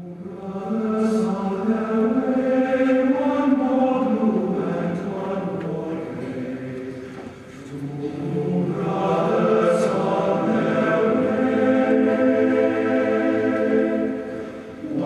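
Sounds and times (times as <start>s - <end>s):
voices chanting held notes: 0.0s - 15.0s.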